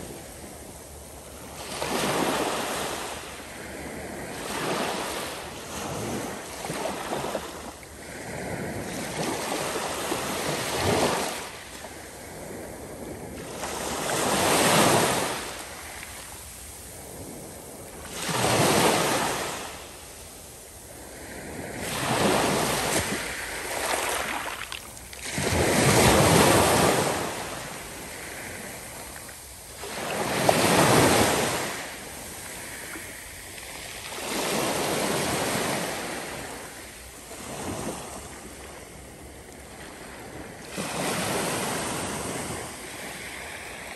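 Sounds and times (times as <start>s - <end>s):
small waves breaking on beach: 1.2s - 43.9s.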